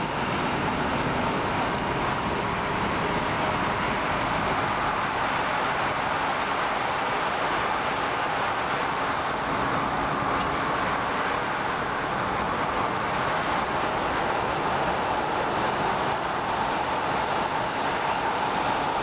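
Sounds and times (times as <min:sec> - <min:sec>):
train wheels rolling on track: 0:00.0 - 0:19.0.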